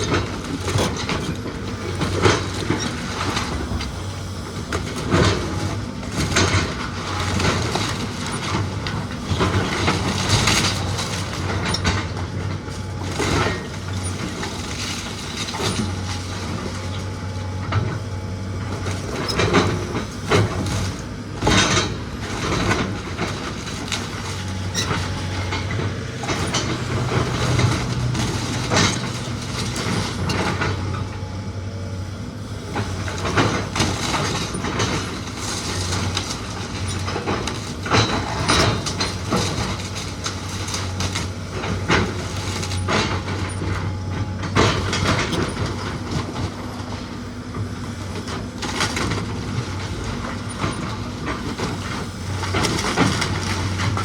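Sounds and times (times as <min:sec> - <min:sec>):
machine engine humming: 0:00.2 - 0:54.0
wood and debris cracking: 0:04.6 - 0:17.2, 0:18.7 - 0:31.2, 0:32.8 - 0:54.0.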